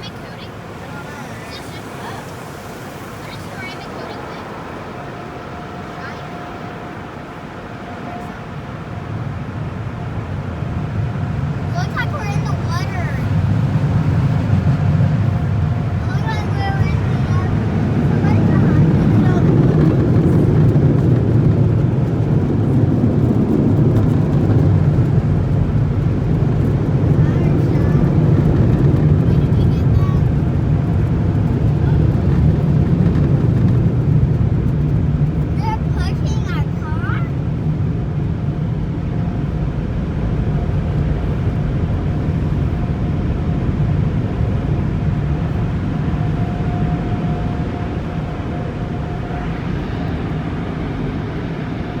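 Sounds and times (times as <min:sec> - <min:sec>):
car wash equipment rumbling: 0:00.0 - 0:52.0.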